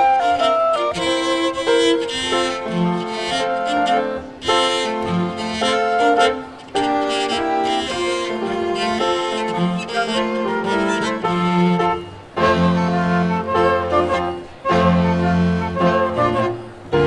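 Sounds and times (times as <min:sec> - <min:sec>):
cello: 0:00.0 - 0:17.0
flute: 0:00.0 - 0:17.0
grand piano: 0:00.0 - 0:17.0
violin: 0:00.0 - 0:17.0.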